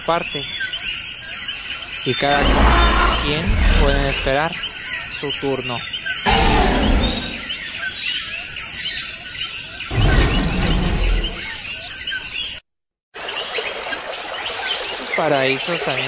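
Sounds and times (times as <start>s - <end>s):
many birds chirping: 0.0s - 12.6s, 13.2s - 16.0s.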